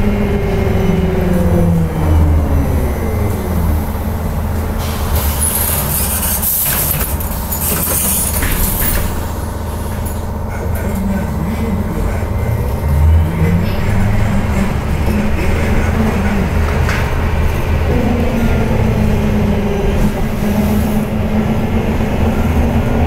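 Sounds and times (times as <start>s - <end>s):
road rumble: 0.0s - 23.0s.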